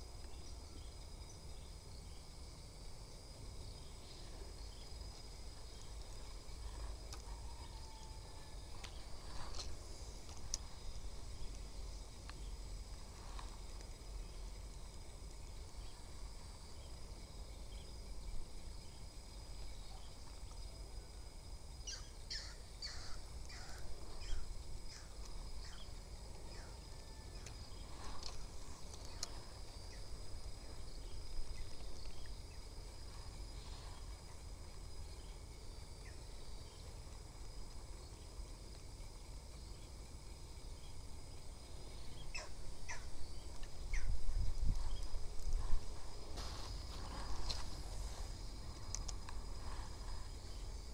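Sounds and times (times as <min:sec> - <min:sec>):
high-pitched insect drone: 0:00.0 - 0:50.9
sharp insect chirps: 0:00.0 - 0:50.9.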